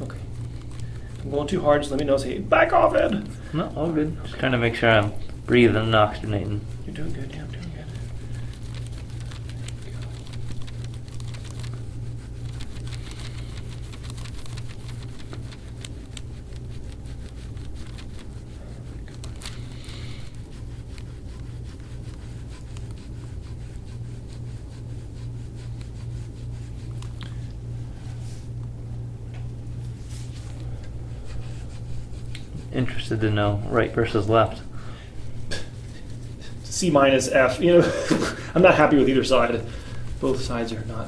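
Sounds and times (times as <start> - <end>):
tool scraping oiled skin: 0.0 - 27.4, 31.2 - 41.0.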